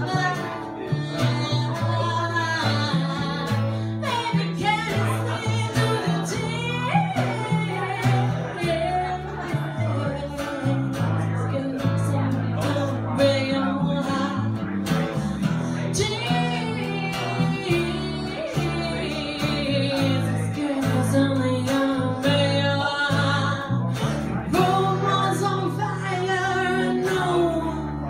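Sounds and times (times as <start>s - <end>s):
acoustic guitar: 0.0s - 28.0s
upright bass playing low notes: 0.0s - 28.0s
woman singing: 0.0s - 28.0s.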